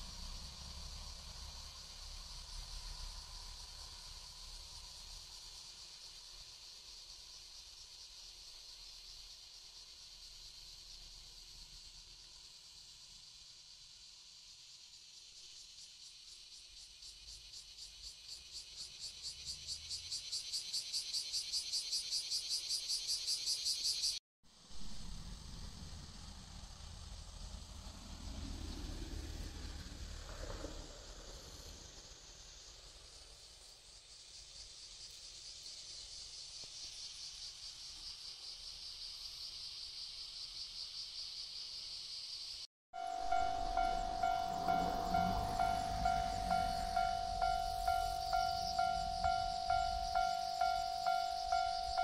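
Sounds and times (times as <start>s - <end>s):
insect chirping: 0.0s - 52.0s.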